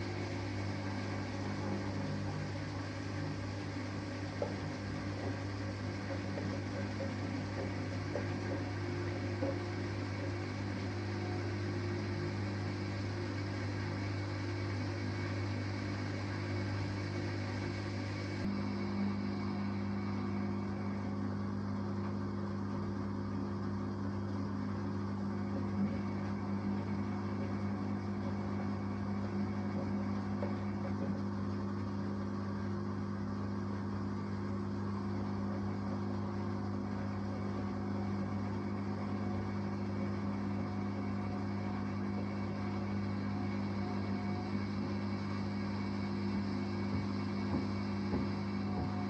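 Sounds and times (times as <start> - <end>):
washing machine humming: 0.0 - 49.0.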